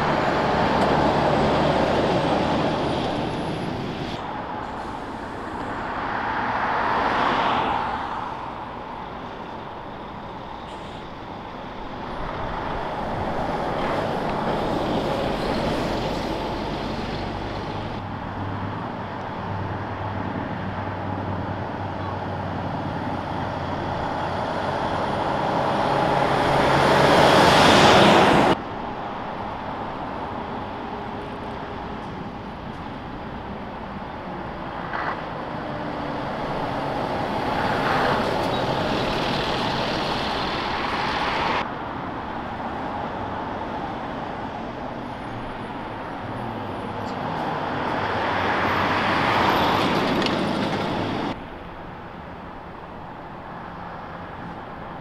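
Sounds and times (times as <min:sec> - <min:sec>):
heavy trucks passing: 0:00.0 - 0:55.0.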